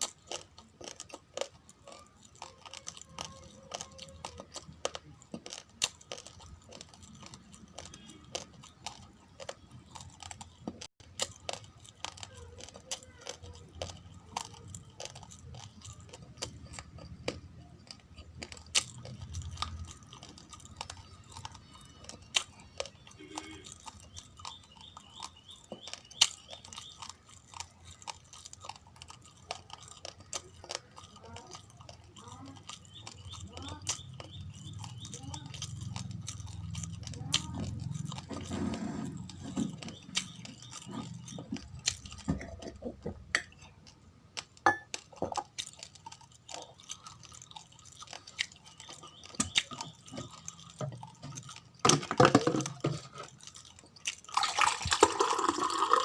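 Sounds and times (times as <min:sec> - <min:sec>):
chewing raw rice crunches: 0:00.0 - 0:56.0.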